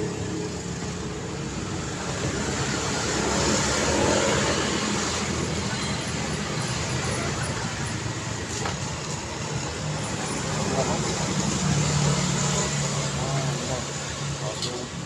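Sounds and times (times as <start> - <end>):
traffic driving past: 0.0 - 15.0.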